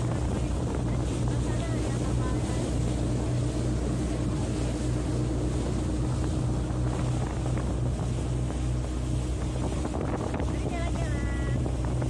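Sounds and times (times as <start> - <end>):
speedboat engine humming: 0.0 - 12.0
wind buffeting microphone: 0.0 - 12.0.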